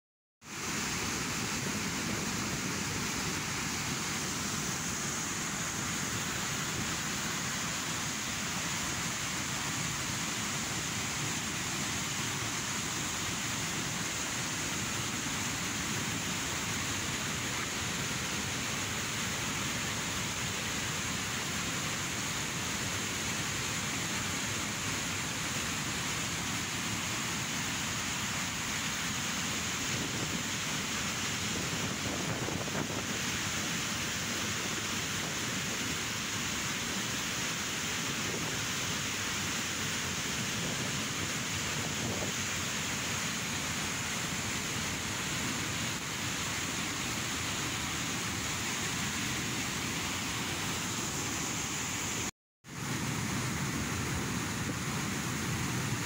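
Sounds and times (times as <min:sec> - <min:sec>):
floodwater rushing over boulders: 0:00.4 - 0:56.0.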